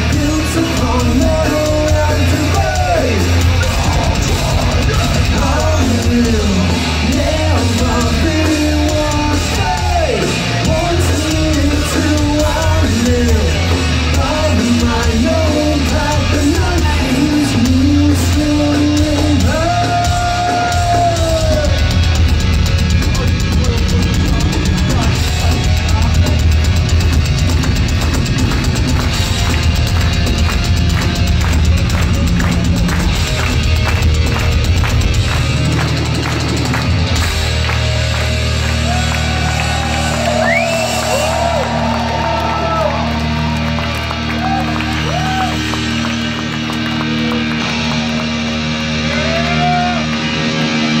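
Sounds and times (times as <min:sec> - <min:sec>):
heavy metal band playing live: 0:00.0 - 0:51.0
pounding drums: 0:00.0 - 0:51.0.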